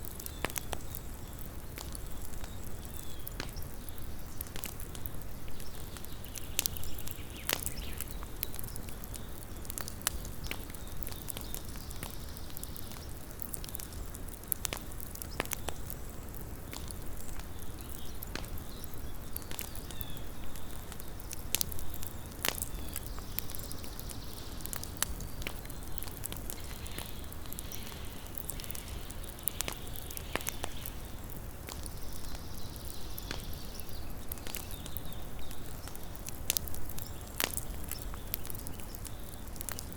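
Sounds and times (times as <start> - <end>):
campfire crackling and popping: 0.0 - 39.9
low hiss of flames: 0.0 - 39.9.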